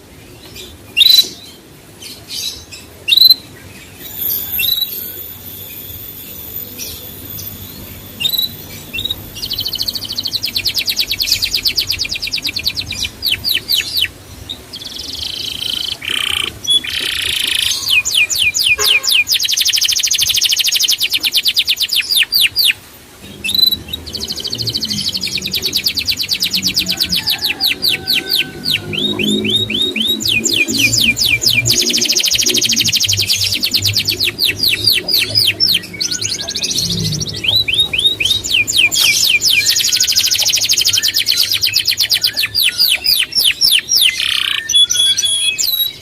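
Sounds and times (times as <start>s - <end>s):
songbird trilling: 4.0s - 46.0s.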